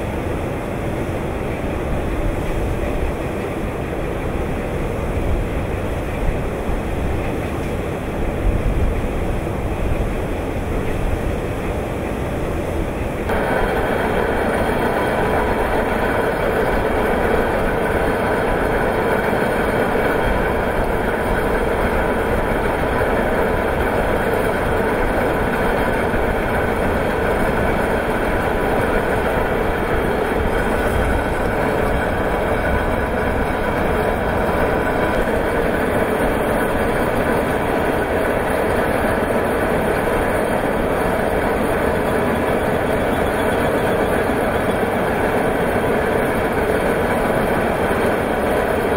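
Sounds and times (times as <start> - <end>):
belt conveyor rumbling: 0.0 - 48.9.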